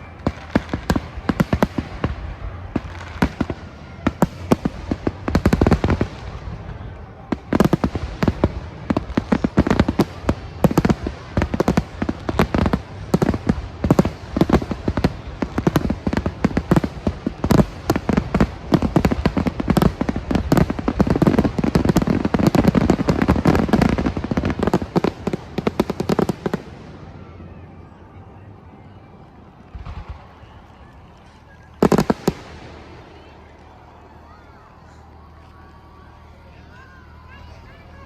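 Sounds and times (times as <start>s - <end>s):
fireworks bangs and cracks: 0.0s - 38.0s.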